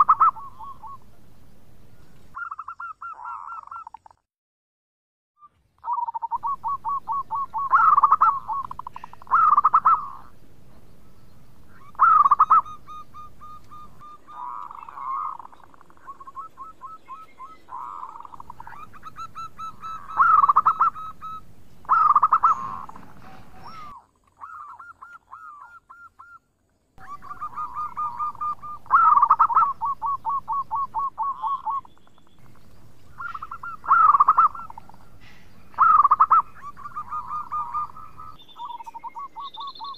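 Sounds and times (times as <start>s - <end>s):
dove cooing: 0.0s - 1.2s, 2.0s - 4.0s, 5.8s - 10.4s, 11.7s - 26.4s, 27.0s - 39.9s.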